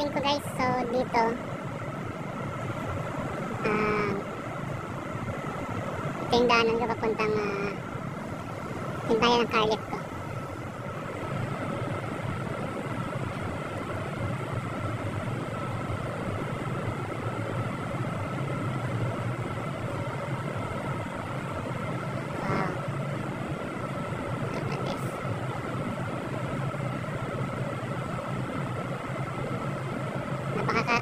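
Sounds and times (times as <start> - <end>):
constant high hum: 0.0 - 31.0.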